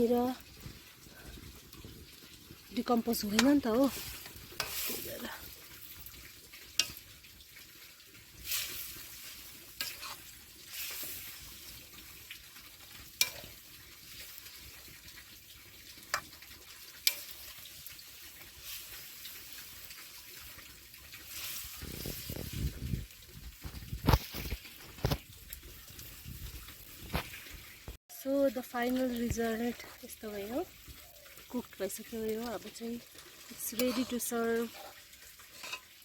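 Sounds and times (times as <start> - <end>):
boiling water bubbling: 0.0 - 36.0.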